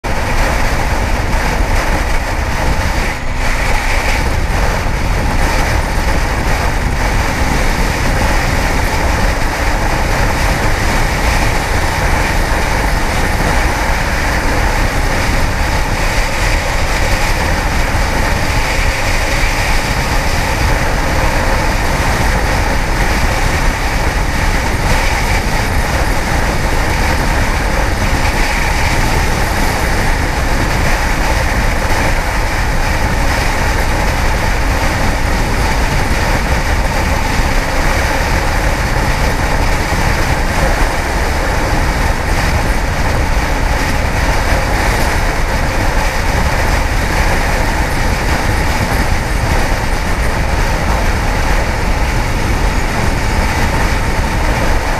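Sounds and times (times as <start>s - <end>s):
motorcycle engine running: 0.0s - 54.9s
wind rushing on microphone: 0.0s - 54.9s.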